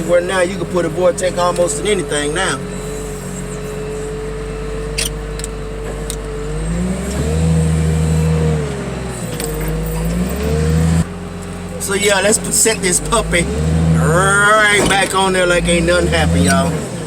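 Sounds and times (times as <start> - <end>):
heavy machinery engine revving: 0.0 - 17.0.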